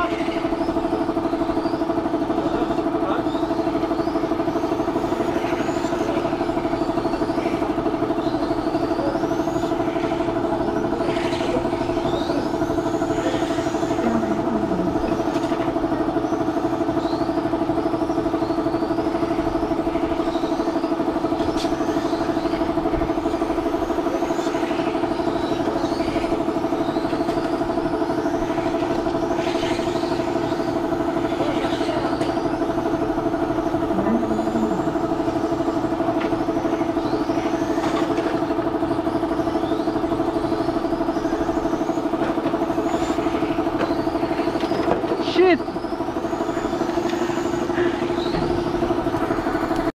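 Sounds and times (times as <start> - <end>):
electric toy car motors whining: 0.0 - 49.9
steady mechanical hum: 0.0 - 49.9.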